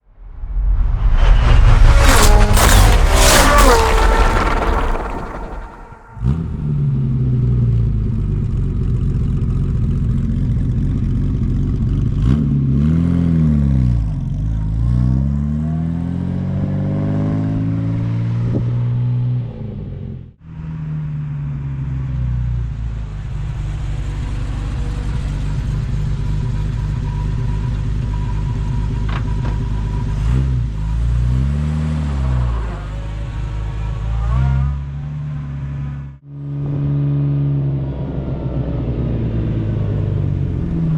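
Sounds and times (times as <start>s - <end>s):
car engine idling and revving: 1.4s - 7.1s, 7.9s - 40.9s.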